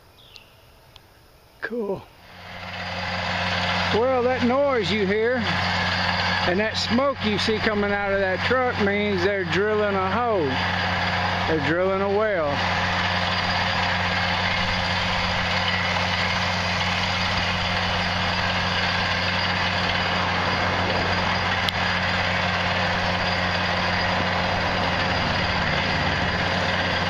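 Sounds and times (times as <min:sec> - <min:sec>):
drilling rig engine drone: 0:02.1 - 0:27.0.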